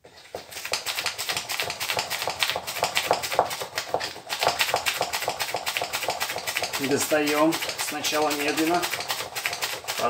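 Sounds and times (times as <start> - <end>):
plastic rubbing on fabric: 0.0 - 10.0.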